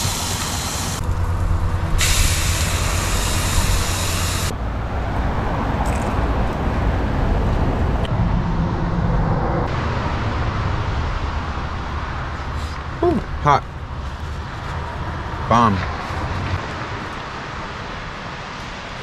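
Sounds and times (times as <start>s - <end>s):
low rumble: 1.0s - 16.6s.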